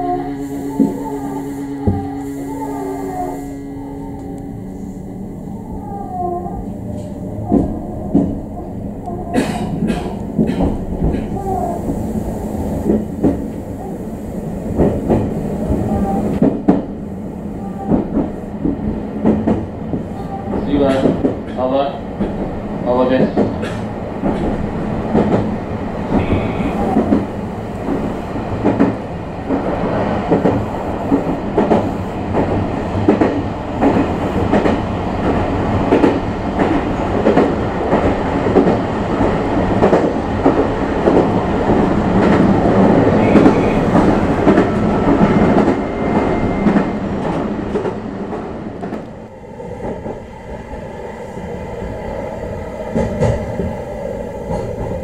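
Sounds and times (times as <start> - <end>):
electric train running: 0.0 - 55.0.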